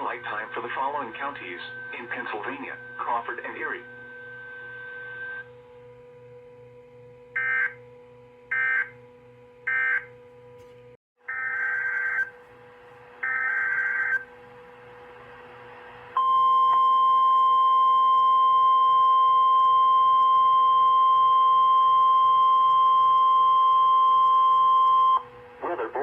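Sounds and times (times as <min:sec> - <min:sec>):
steady alarm tone: 0:00.0 - 0:10.2, 0:11.2 - 0:15.2, 0:16.1 - 0:26.0
faint steady hum: 0:00.0 - 0:26.0.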